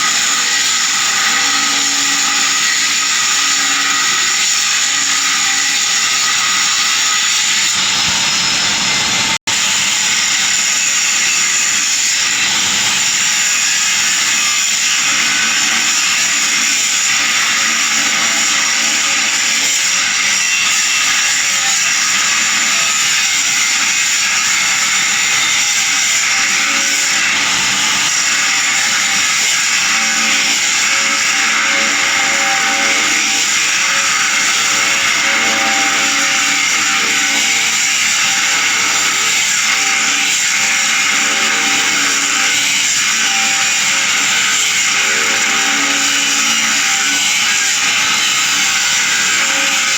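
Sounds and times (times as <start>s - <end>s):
hissing whining metalworking noise: 0.0s - 49.9s.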